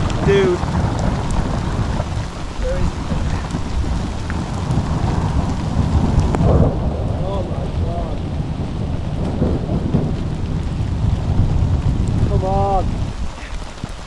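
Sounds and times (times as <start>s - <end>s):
heavy rain pouring: 0.0s - 14.0s
low rumble of thunder: 0.0s - 14.0s.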